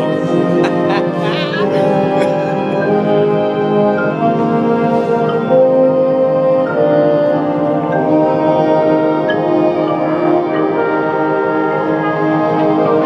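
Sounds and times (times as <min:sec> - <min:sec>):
band playing slow held chords: 0:00.0 - 0:13.0.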